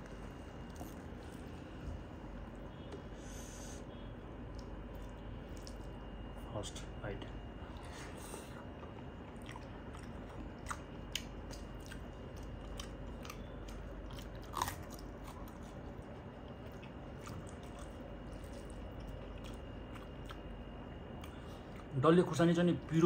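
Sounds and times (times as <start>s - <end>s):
man chewing: 0.1s - 1.8s, 2.4s - 6.2s, 7.6s - 22.0s.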